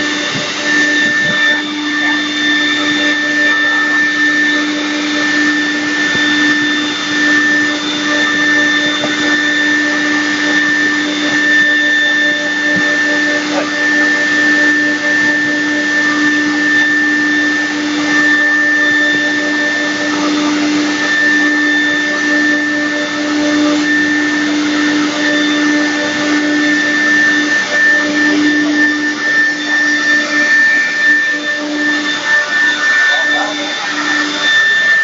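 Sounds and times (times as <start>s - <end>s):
router bit cutting wood: 0.0s - 35.0s
router spindle whine: 0.0s - 35.0s.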